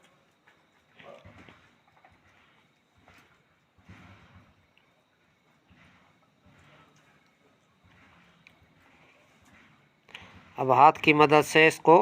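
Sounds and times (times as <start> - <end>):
quiet scraping in a bowl: 0.1 - 11.1.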